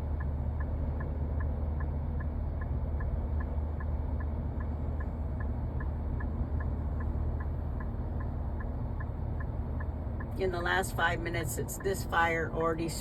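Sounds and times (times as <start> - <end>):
car idling: 0.0 - 13.0.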